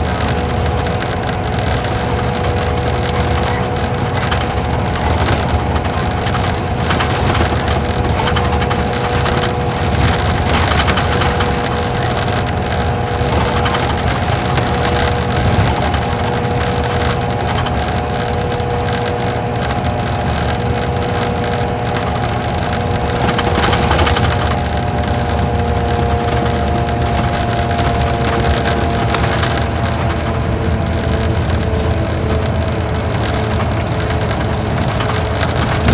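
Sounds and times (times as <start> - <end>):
bus engine and road noise: 0.0 - 35.9.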